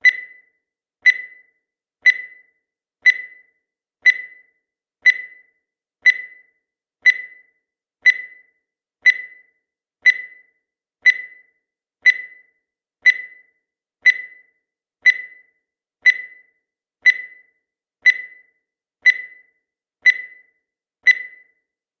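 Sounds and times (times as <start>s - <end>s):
sharp high timer ticks: 0.0s - 21.6s.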